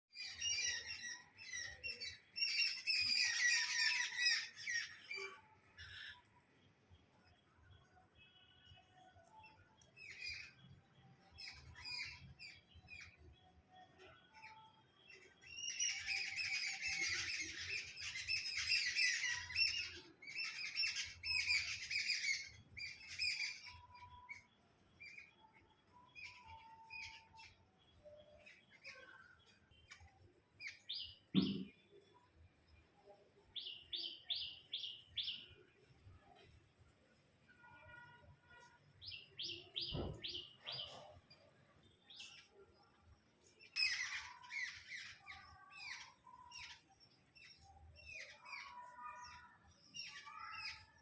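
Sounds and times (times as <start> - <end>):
small birds chirping: 0.1 - 51.0.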